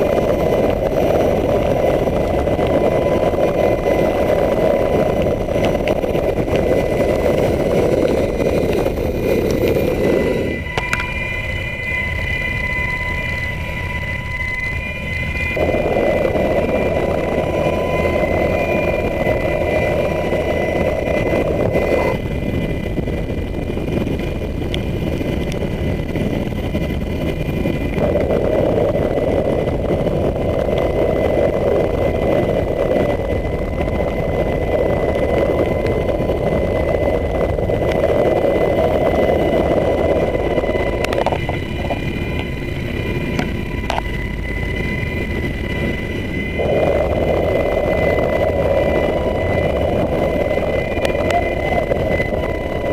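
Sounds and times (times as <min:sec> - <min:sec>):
helicopter rotor and turbine: 0:00.0 - 0:52.9
high turbine whine: 0:00.0 - 0:52.9.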